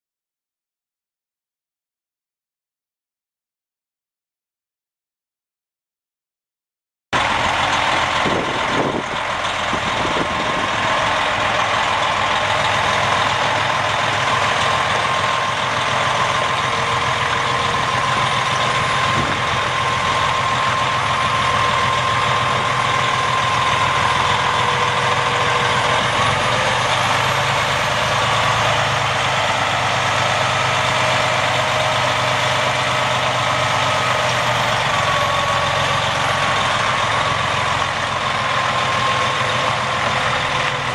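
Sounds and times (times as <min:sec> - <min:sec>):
truck diesel engine idling: 0:07.2 - 0:40.9.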